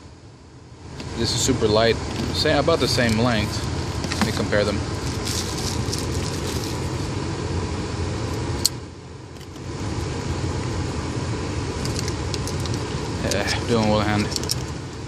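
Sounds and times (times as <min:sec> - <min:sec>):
car cabin engine rumble: 0:00.8 - 0:15.0.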